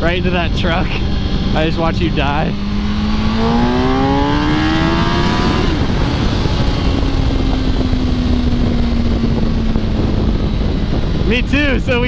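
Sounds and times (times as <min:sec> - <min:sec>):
motorcycle engine accelerating: 0:00.0 - 0:12.0
wind noise on microphone: 0:00.0 - 0:12.0.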